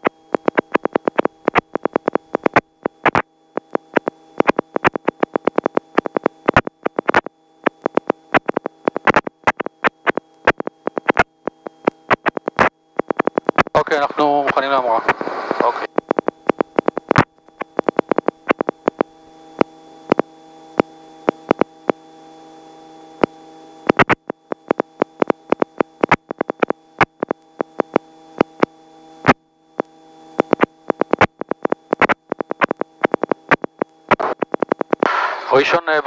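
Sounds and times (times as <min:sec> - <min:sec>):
intercom hum: 0:00.0 - 0:22.0, 0:23.2 - 0:36.0
sharp clicks and crackles: 0:00.0 - 0:22.0, 0:23.2 - 0:35.5.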